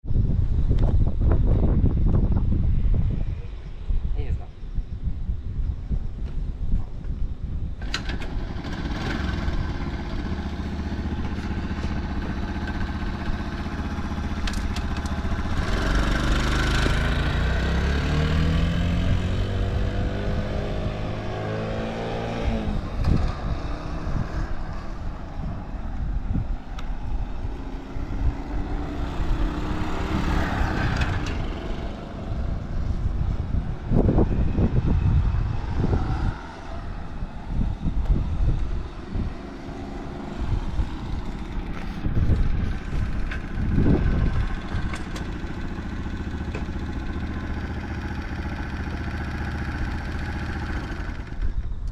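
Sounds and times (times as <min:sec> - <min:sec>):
motorcycle engine revving: 0:07.8 - 0:51.9.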